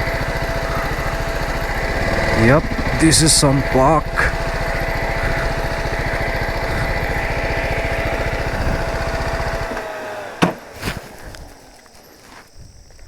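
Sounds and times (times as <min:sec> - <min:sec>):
thin whine winding down: 0:00.0 - 0:12.4
motorcycle engine idling: 0:00.0 - 0:13.0.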